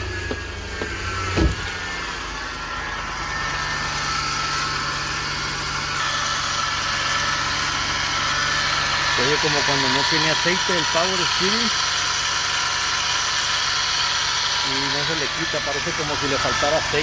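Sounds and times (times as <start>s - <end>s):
engine idling: 0.0s - 17.0s
whining hum: 0.0s - 17.0s.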